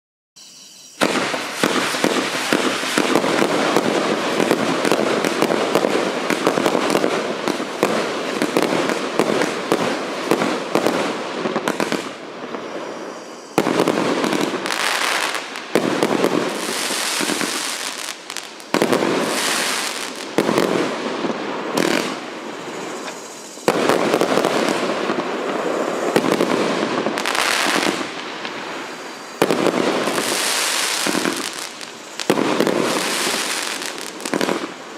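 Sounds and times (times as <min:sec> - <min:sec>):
fireworks shots and aerial bursts: 0:00.4 - 0:34.9.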